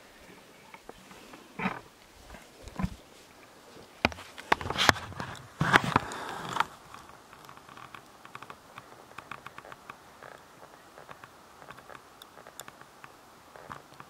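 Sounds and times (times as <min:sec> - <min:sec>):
rustling through dry undergrowth: 0:00.0 - 0:14.0
faint ticks: 0:00.2 - 0:14.0.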